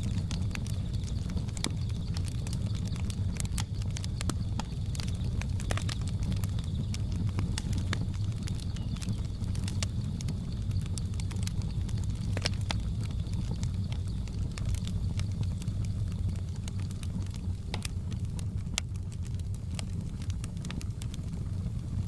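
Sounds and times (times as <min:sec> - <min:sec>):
low rumble of flames: 0:00.0 - 0:22.0
wood fire pops and snaps: 0:00.0 - 0:22.0.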